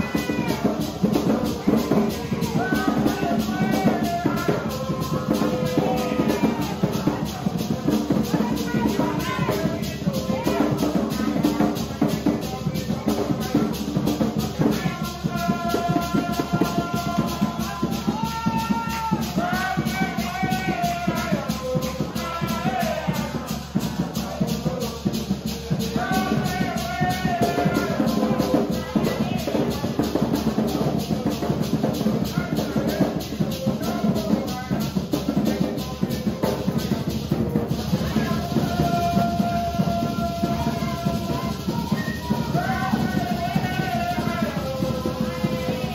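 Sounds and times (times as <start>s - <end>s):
hand drums: 0.0s - 45.9s
maracas shaking: 0.0s - 45.9s
voices singing: 0.0s - 45.9s.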